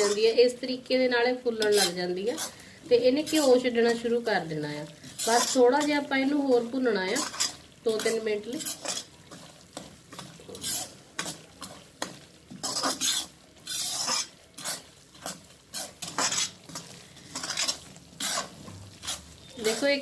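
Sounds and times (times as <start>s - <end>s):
metal spoon scraping metal pan: 0.0s - 0.4s, 1.5s - 4.1s, 5.0s - 6.1s, 7.0s - 20.0s.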